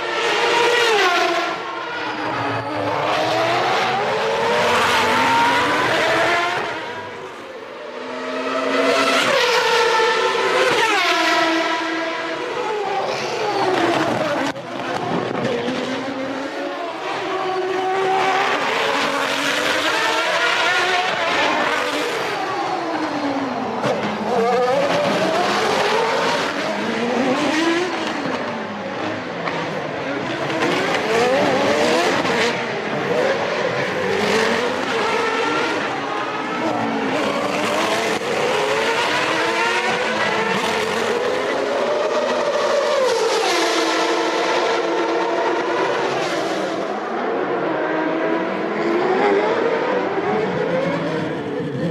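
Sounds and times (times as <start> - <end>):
racing car engines revving: 0.0 - 51.9.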